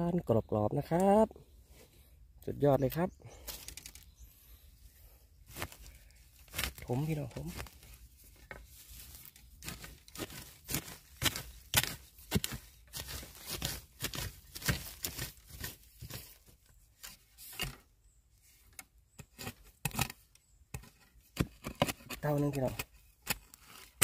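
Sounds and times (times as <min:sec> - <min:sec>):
digging and scraping in soil: 0:00.1 - 0:24.0.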